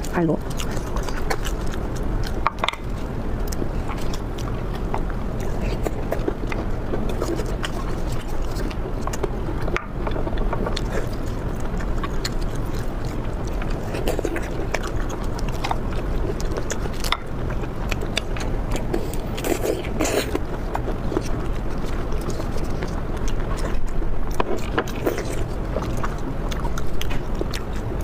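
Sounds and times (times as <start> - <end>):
chewing and biting: 0.0 - 28.0
wet mouth sounds: 0.0 - 28.0.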